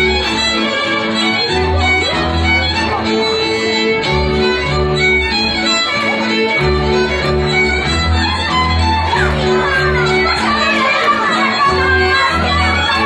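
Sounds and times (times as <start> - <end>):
folk dance music on fiddle: 0.0 - 13.0.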